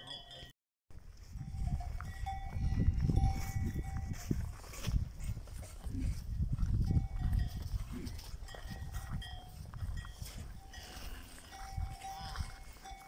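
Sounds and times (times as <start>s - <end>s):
cow bells clinking: 0.0s - 0.5s, 1.1s - 13.0s.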